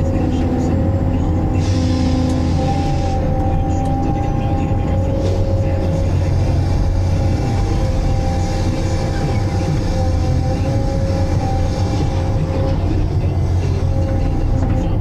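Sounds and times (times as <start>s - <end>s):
crane droning: 0.0s - 15.0s
crane whining tones: 0.0s - 15.0s.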